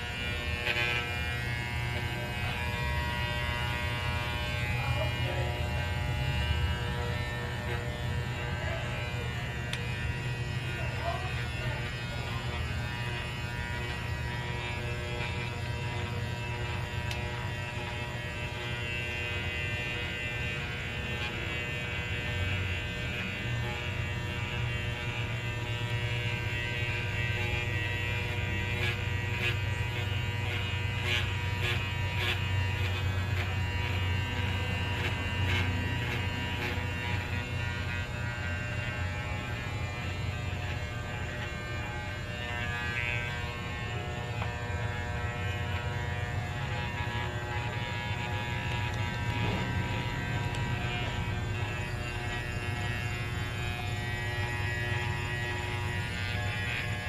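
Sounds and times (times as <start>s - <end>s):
electric hair clippers buzzing: 0.0s - 57.0s.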